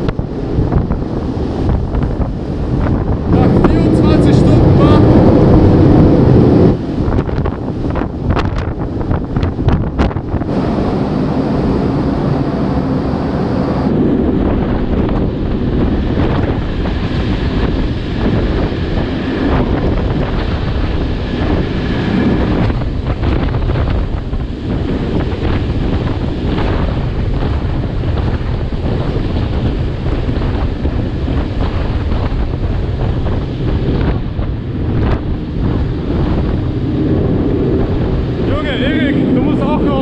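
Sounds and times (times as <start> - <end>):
steady low rumble: 0.0 - 40.0
wind buffeting microphone: 0.0 - 40.0.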